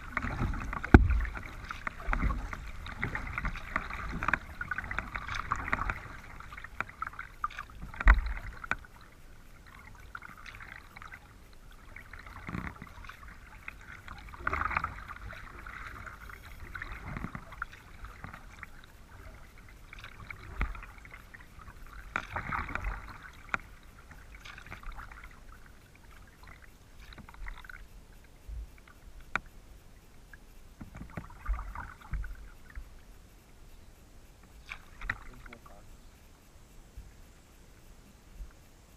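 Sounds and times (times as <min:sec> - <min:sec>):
water drips and trickles: 0:00.0 - 0:28.2, 0:30.9 - 0:33.0, 0:34.4 - 0:36.0
paddle splashing in water: 0:00.0 - 0:29.5, 0:30.2 - 0:33.1, 0:34.3 - 0:36.2.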